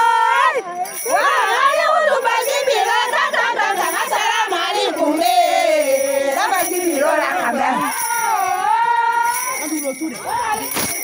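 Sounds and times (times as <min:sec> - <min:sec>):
woman's lead voice singing: 0:00.0 - 0:09.4
women singing together: 0:00.0 - 0:09.6.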